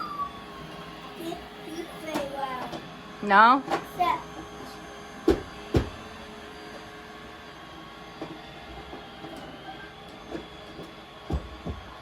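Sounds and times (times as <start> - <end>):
robot vacuum running: 0.0 - 12.0.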